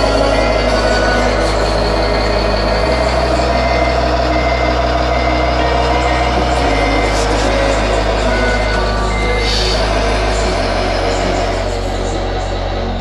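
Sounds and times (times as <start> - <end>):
reversing beeper: 0.0 - 13.0
simulated diesel engine running: 0.0 - 13.0.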